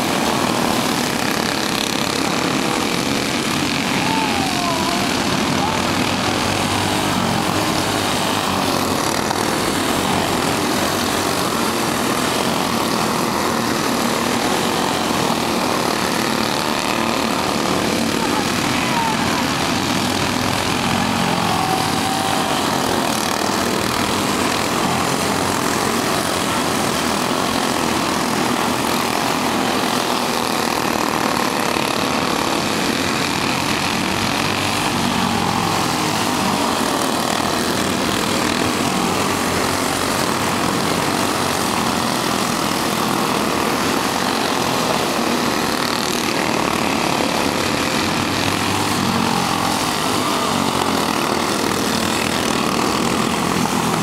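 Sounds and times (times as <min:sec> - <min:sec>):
racing kart engines buzzing: 0:00.0 - 0:54.0.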